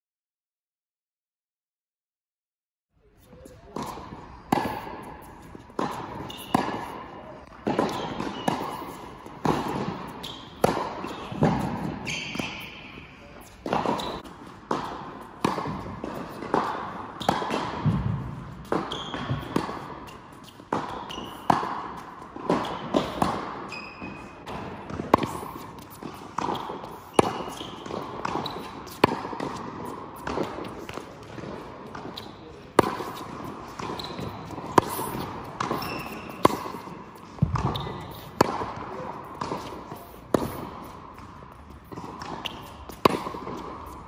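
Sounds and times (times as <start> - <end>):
shoes squeaking on court: 3.1 - 14.6, 15.2 - 44.0
tennis balls bouncing on court: 3.3 - 44.0
tennis balls hit by rackets: 3.3 - 44.0.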